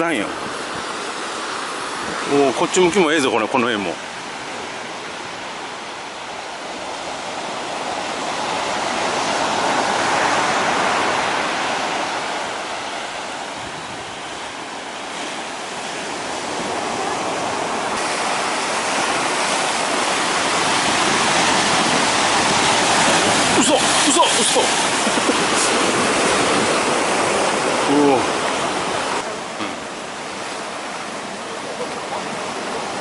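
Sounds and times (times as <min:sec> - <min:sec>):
surf breaking on beach: 0:00.0 - 0:33.0.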